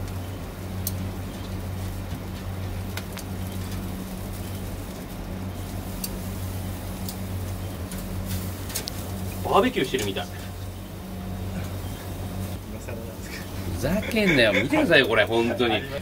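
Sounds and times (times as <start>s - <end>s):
meat grilling over charcoal: 0.0s - 16.0s
steady low hum: 0.0s - 16.0s.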